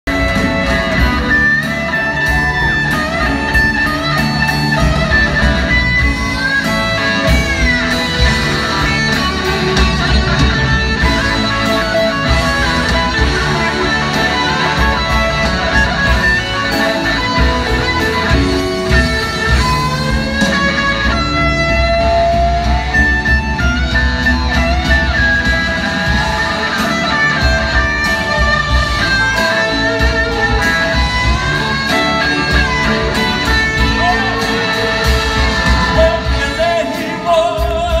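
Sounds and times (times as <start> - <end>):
live rock band playing: 0.0 - 38.0
steady drum beat: 0.0 - 38.0
electric guitars: 0.1 - 38.0.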